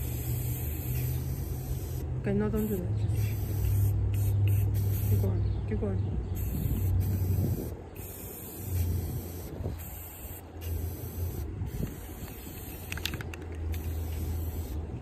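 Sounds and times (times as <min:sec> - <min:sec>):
spray paint cans hissing: 0:00.0 - 0:05.4, 0:06.4 - 0:15.0.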